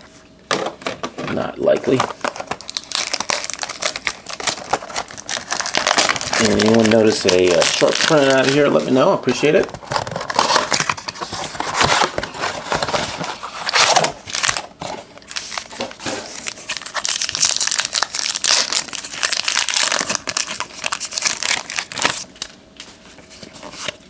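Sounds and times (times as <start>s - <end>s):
plastic wrapping torn and crinkled: 1.9s - 8.7s, 9.8s - 22.6s.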